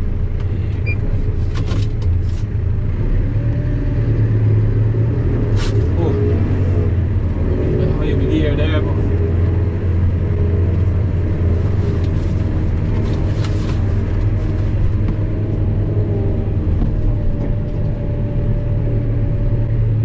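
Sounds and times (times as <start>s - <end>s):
tractor diesel engine drone: 0.0s - 20.0s.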